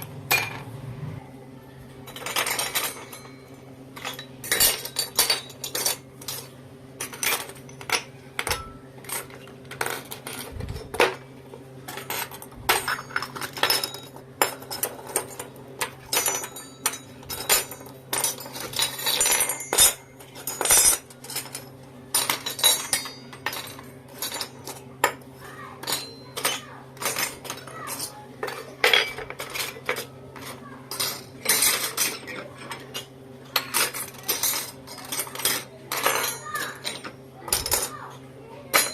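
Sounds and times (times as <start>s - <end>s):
toy dishes clinking and clattering: 0.0s - 1.2s, 1.9s - 38.9s.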